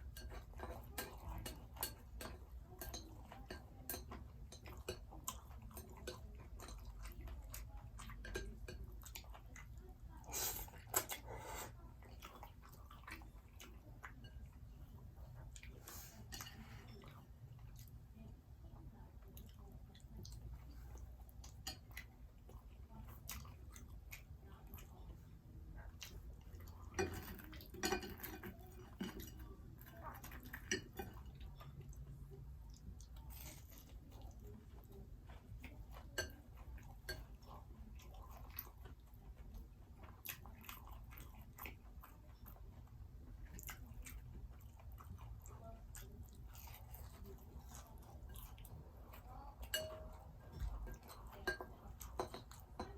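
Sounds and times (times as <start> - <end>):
crunchy chewing of fried food: 3.8 - 52.9.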